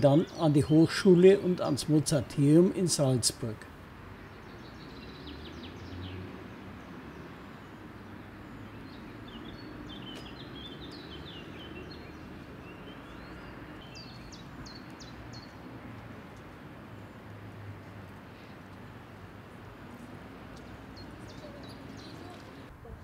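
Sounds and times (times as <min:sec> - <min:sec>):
outdoor background noise: 0:00.0 - 0:23.0
songbirds chirping: 0:00.0 - 0:23.0.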